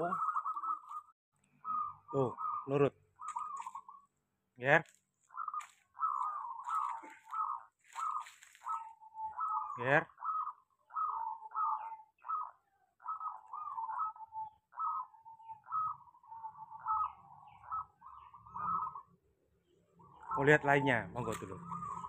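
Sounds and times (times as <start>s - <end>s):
dove cooing: 0.0s - 4.1s, 5.3s - 19.2s, 20.0s - 22.0s.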